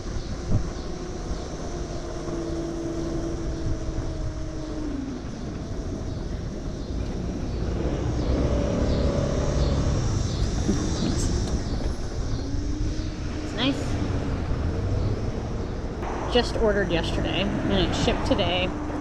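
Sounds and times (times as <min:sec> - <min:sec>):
electric moped whine: 0:00.0 - 0:19.0
wind noise: 0:00.0 - 0:19.0.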